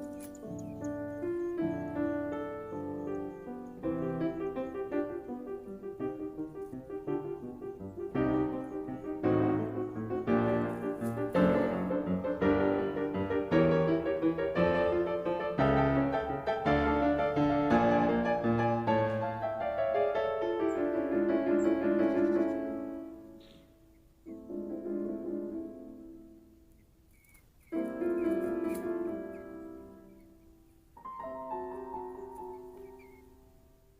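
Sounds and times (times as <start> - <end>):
gentle piano music: 0.0 - 33.9.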